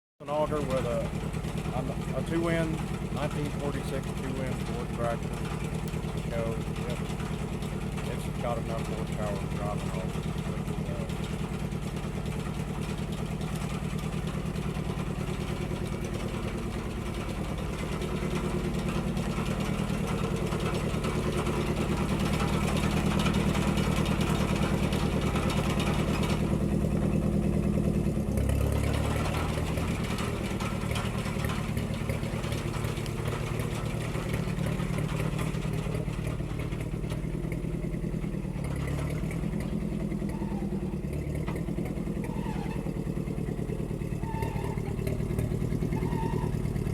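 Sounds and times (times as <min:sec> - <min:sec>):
tractor engine running: 0:00.2 - 0:46.9.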